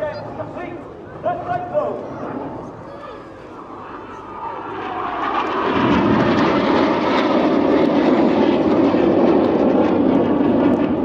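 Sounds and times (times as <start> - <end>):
jet engines passing overhead: 0.0 - 11.0.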